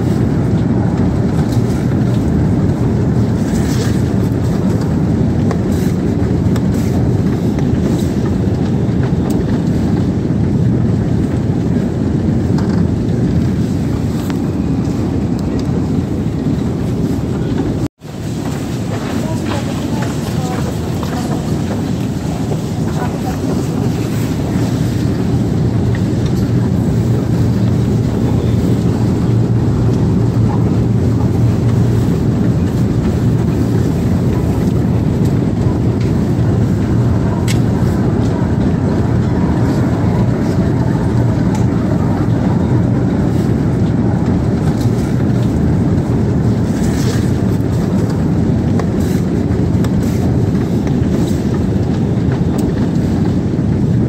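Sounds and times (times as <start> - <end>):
escalator humming and rumbling: 0.0 - 54.0.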